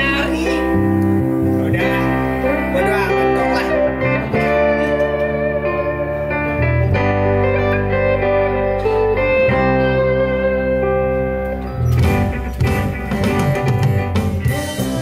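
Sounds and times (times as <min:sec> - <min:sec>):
instrumental band music: 0:00.0 - 0:15.0.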